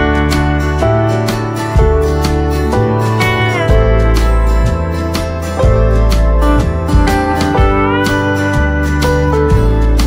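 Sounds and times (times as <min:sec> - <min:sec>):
guitar-led music with bass: 0:00.0 - 0:10.0.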